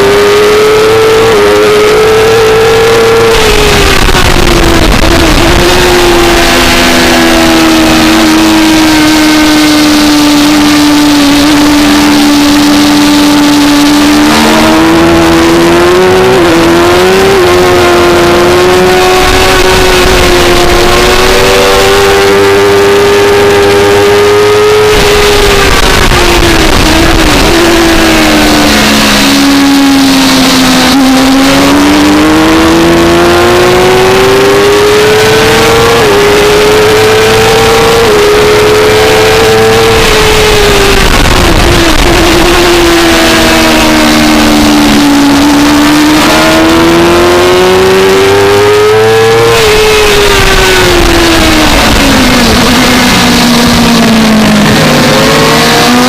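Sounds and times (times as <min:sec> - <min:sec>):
motorcycle engine at race revs: 0:00.0 - 0:56.0.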